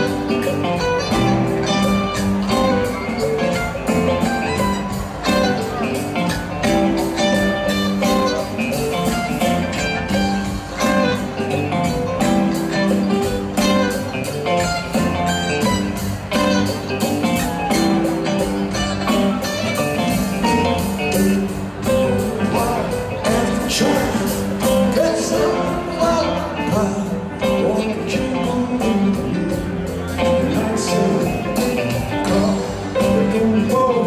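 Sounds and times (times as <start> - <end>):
rock band playing loudly: 0.0 - 34.0.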